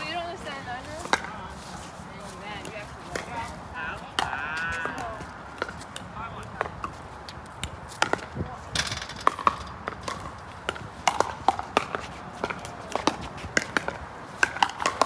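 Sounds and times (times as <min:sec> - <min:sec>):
ball bouncing on court: 0:01.0 - 0:01.4, 0:02.6 - 0:15.0
paddles hitting plastic ball: 0:02.6 - 0:15.0.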